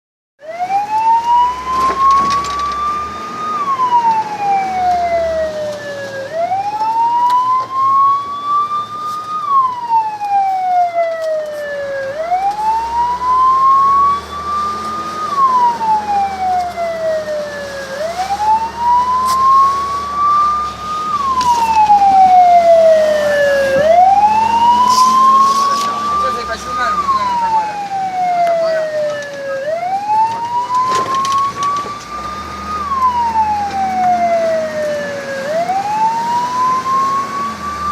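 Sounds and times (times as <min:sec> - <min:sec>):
fire siren wailing: 0:00.4 - 0:37.9.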